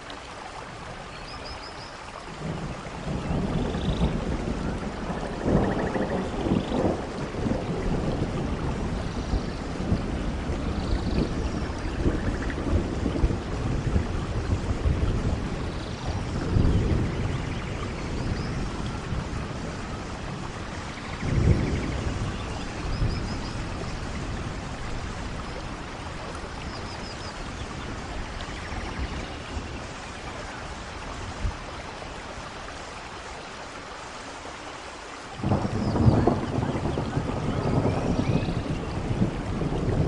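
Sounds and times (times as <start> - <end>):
steady rain: 0.0 - 40.0
rolling thunder: 2.4 - 32.6, 35.4 - 40.0.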